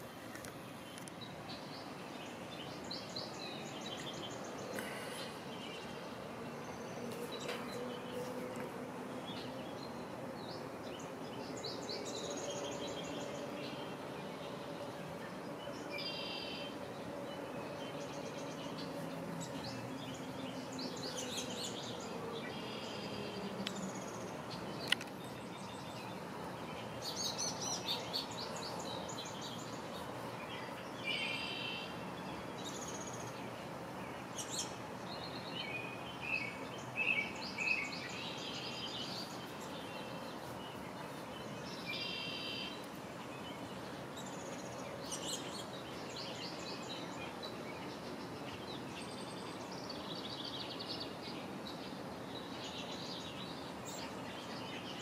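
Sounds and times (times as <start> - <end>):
outdoor background hiss: 0.0 - 55.0
small birds chirping: 0.0 - 55.0.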